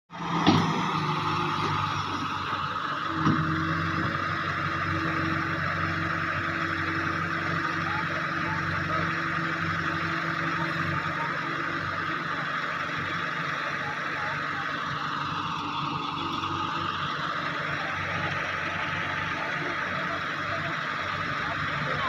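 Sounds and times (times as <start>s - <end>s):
excavator diesel engine running: 0.1s - 22.0s.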